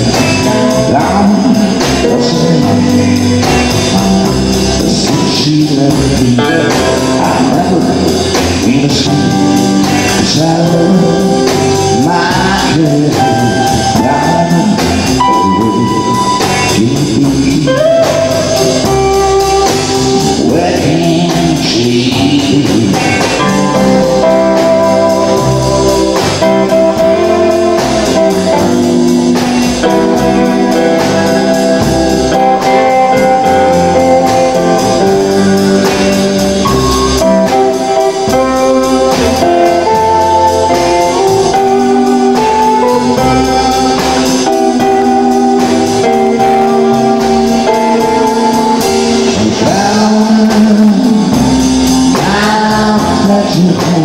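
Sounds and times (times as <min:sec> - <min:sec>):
electric guitar: 0:00.0 - 0:54.0
rock band playing: 0:00.0 - 0:54.0.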